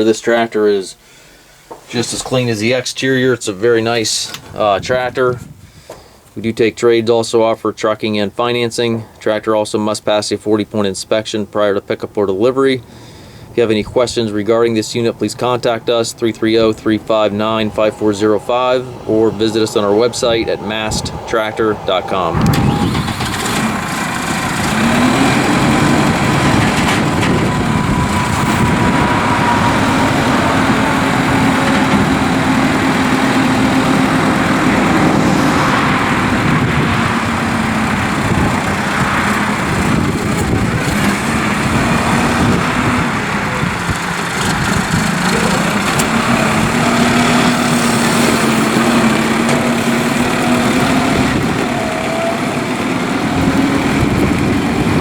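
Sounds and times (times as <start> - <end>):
tractor diesel engine running: 0.0 - 6.7, 11.4 - 55.0.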